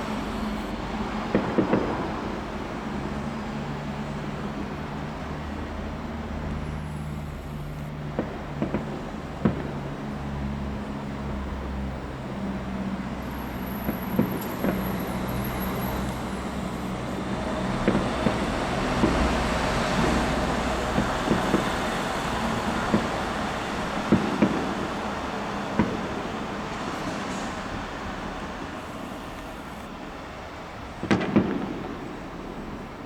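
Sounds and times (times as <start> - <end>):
fireworks bangs and pops: 0.0 - 33.0.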